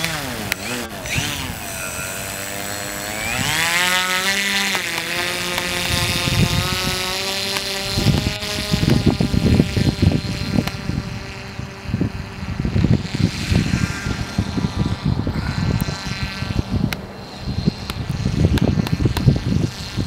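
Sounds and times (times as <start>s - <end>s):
model motor and propeller whine: 0.0s - 20.0s.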